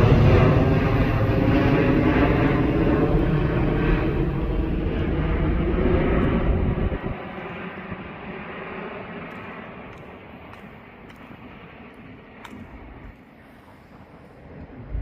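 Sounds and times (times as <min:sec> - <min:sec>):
airliner engines roaring: 0:00.0 - 0:15.0.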